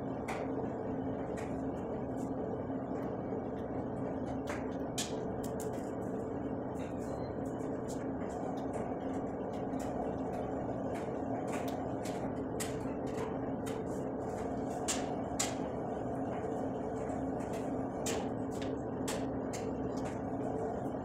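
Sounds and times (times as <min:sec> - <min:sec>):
steady hum with held tones: 0:00.0 - 0:21.0.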